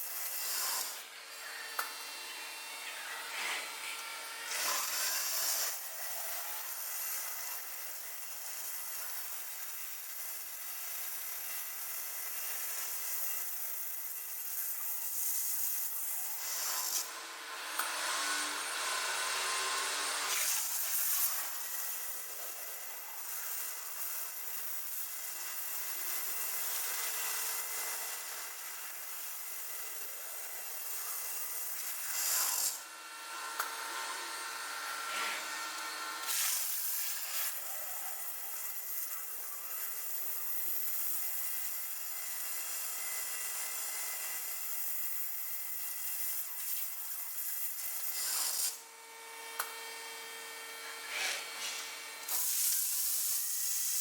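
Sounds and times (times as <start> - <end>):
machine tool rasping on stone: 0.0 - 48.8, 49.5 - 54.0.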